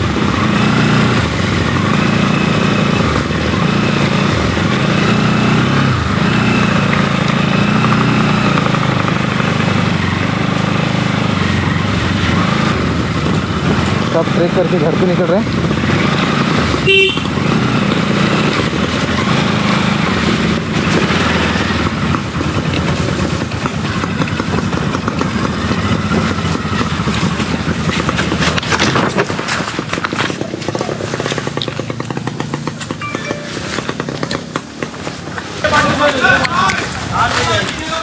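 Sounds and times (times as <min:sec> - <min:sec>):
wind and tyre noise: 0:00.0 - 0:14.3, 0:15.4 - 0:33.0
motorcycle engine at low speed: 0:00.0 - 0:38.0.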